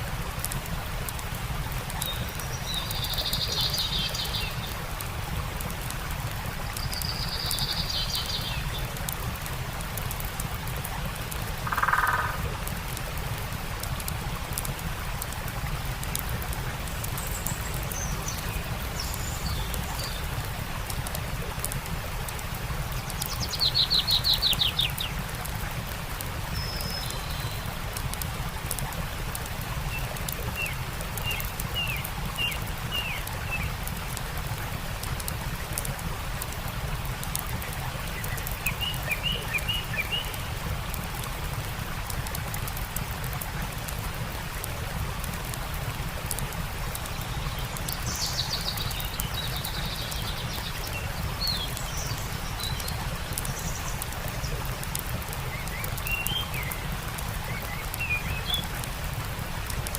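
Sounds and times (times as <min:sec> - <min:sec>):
campfire crackling: 0:00.0 - 0:59.9
running water: 0:00.0 - 0:59.9.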